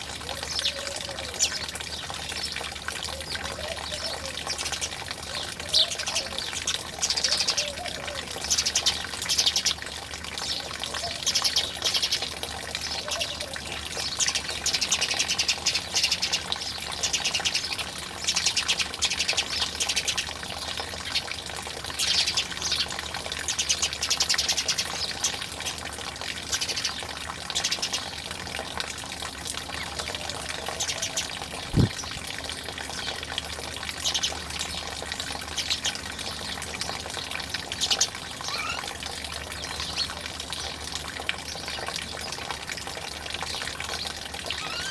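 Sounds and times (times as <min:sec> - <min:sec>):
water running and splashing: 0:00.0 - 0:44.9.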